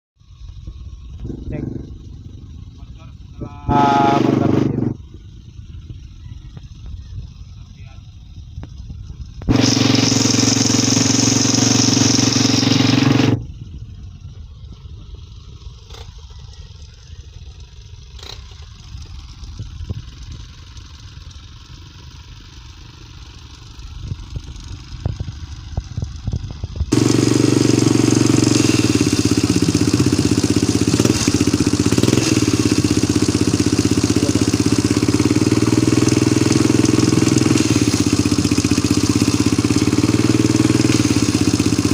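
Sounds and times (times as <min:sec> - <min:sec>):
motorcycle engine running: 0:00.2 - 0:41.9.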